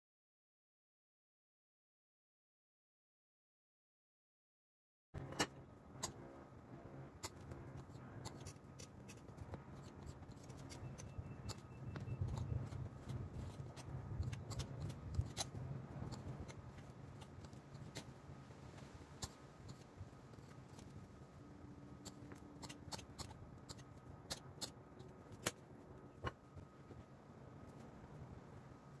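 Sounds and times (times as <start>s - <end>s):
faint low hum: 5.2s - 29.0s.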